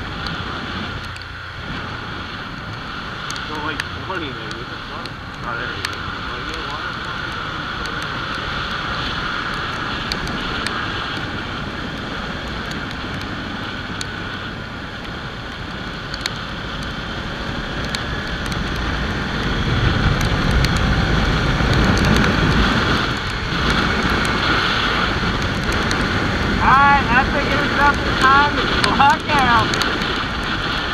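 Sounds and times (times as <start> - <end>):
motorcycle engine running: 0.0 - 30.9
wind rushing over microphone: 0.0 - 30.9.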